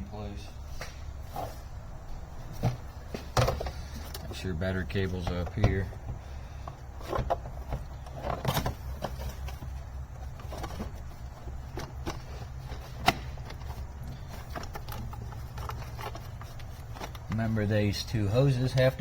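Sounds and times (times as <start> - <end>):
low steady hum: 0.0 - 19.0
parts clicking and knocking: 2.5 - 19.0.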